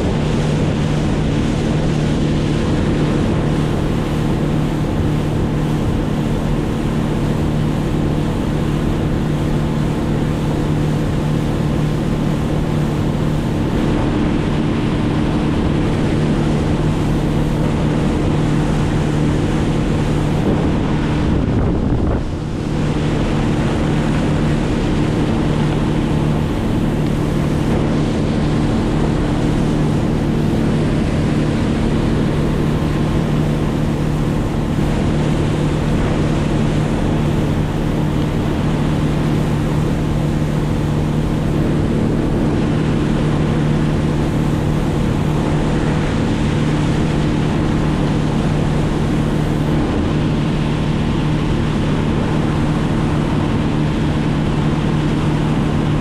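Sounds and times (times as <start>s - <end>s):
motor running steadily: 0.0s - 56.0s
rushing water: 0.0s - 56.0s
wind: 0.0s - 56.0s.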